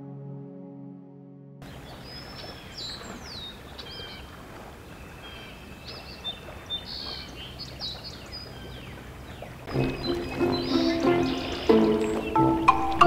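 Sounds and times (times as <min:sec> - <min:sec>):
birds singing and calling: 0:01.6 - 0:13.0.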